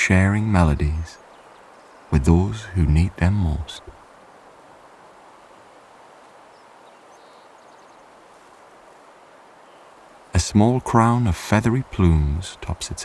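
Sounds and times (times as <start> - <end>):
soft outdoor nature hiss: 0.0 - 13.0.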